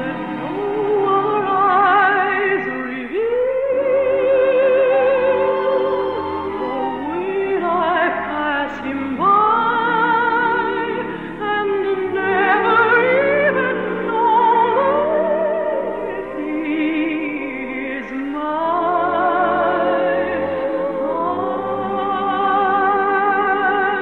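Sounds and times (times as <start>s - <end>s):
operatic soprano singing: 0.0s - 24.0s.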